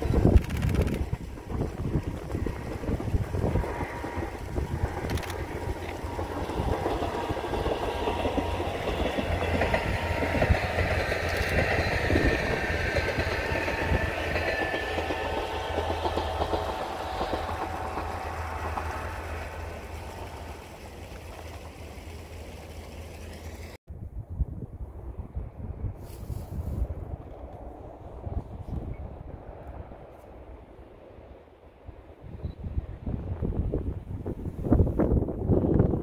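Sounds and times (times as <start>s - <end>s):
wind rumble on microphone: 0.0s - 18.7s, 23.9s - 36.0s
distant train passing: 0.0s - 23.8s, 26.8s - 35.7s.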